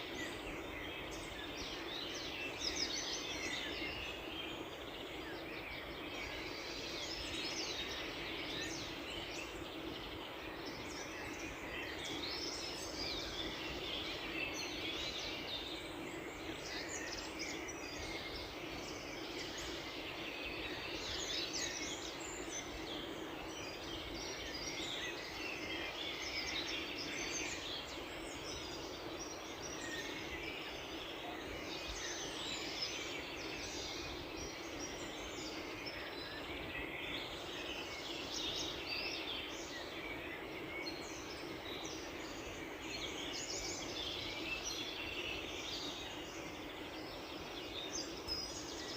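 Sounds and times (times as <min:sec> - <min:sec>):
songbirds chirping and singing: 0:00.0 - 0:48.9.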